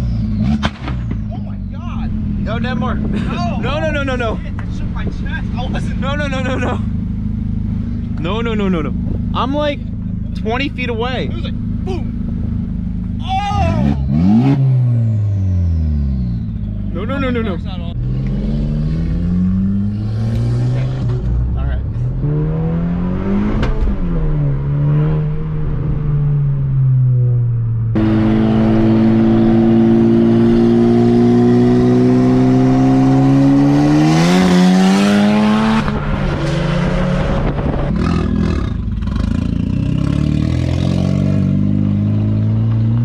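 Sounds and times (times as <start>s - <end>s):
car engine revving raspy: 0.0s - 26.2s, 28.0s - 43.0s.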